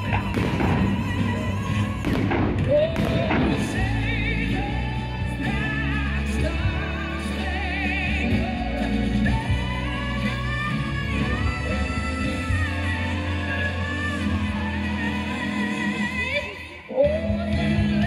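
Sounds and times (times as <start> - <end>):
person singing with vibrato: 0.0 - 18.0.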